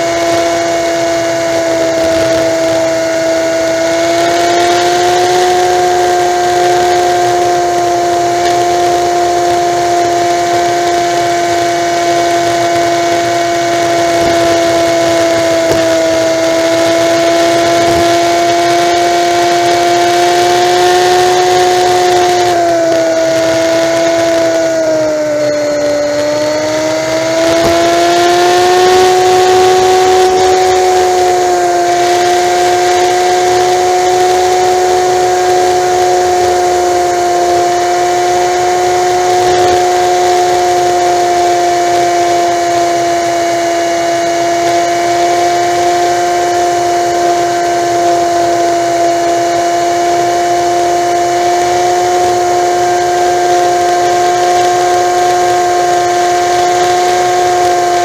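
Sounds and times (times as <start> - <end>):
motorcycle engine droning whine: 0.0 - 58.0
wind noise: 0.0 - 58.0.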